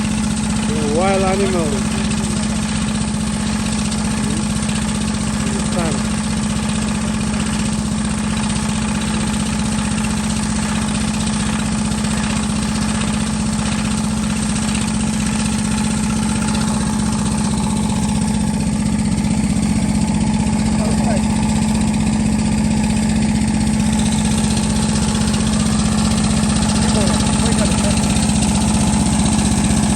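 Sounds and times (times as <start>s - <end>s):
engine running with loud hum: 0.0s - 29.9s.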